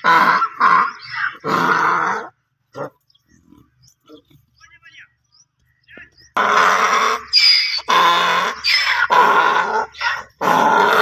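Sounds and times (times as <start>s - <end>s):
donkey braying: 0.0s - 5.0s, 6.2s - 11.0s.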